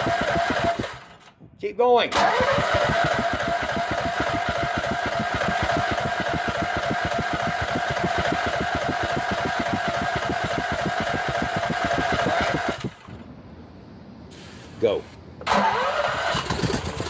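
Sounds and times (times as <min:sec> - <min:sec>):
engine cranking with starter whine: 0:00.0 - 0:01.4, 0:02.1 - 0:13.3, 0:15.4 - 0:17.0.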